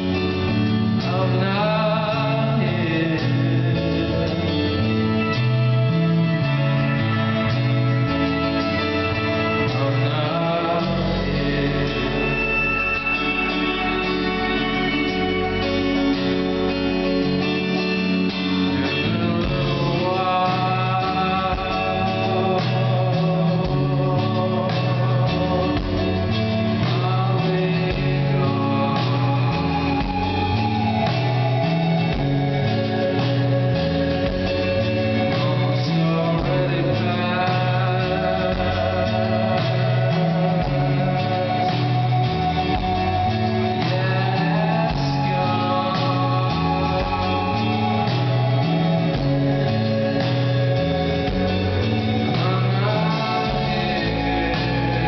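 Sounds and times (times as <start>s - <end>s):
acoustic guitar: 0.0s - 55.0s
bass line: 0.0s - 55.0s
man singing: 0.0s - 55.0s.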